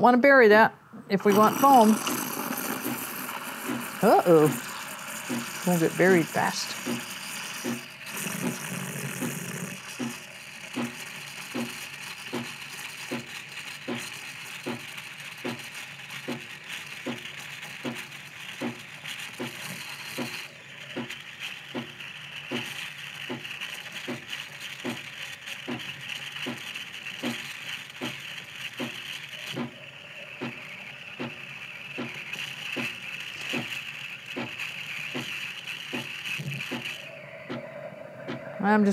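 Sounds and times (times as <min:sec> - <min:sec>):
espresso machine pulsing: 0:01.0 - 0:38.9
steam wand hissing into milk: 0:01.1 - 0:38.9.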